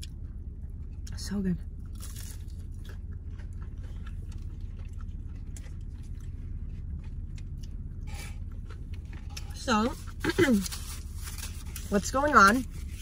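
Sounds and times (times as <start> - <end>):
person chewing food: 0.0 - 11.9
low hum: 0.0 - 13.0.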